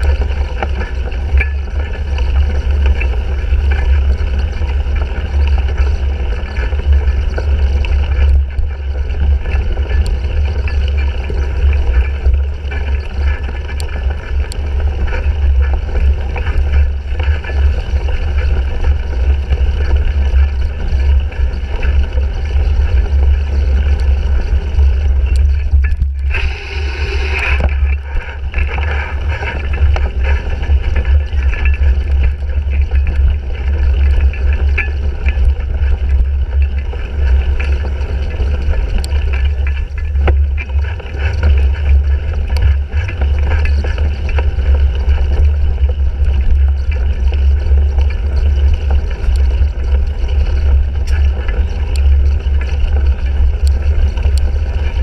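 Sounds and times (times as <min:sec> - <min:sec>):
bike clicks and rattles: 0:00.0 - 0:55.0
wind rumble on camera: 0:00.0 - 0:55.0.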